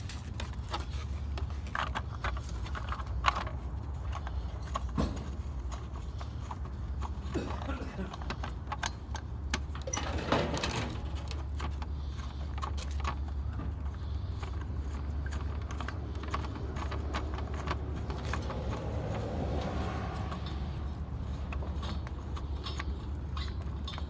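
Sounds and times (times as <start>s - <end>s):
lug nuts clinking: 0.0s - 24.0s.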